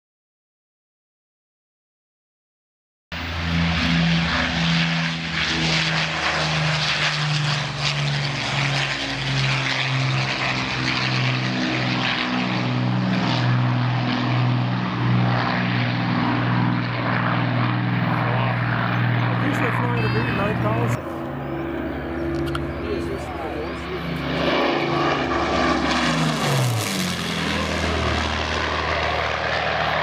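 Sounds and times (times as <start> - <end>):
propeller aircraft engines roaring: 3.1 - 30.0.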